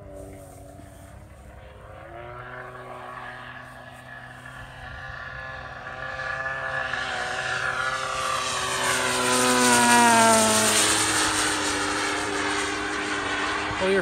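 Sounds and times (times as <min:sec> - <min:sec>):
model plane engine droning: 0:00.0 - 0:14.0.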